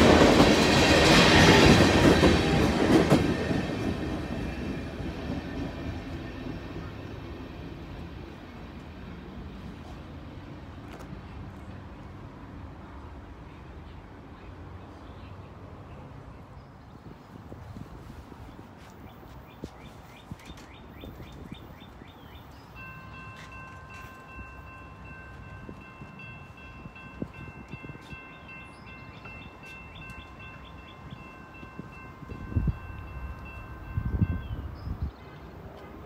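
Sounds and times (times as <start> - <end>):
train approaching: 0.0 - 36.0.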